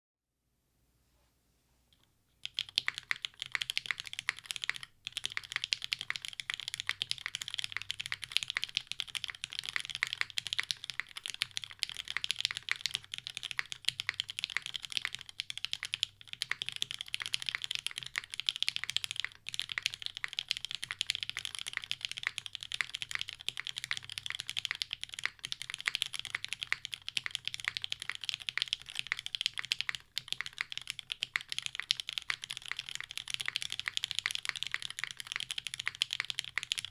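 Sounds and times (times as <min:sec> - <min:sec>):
fast mechanical keyboard typing: 0:02.4 - 0:36.9.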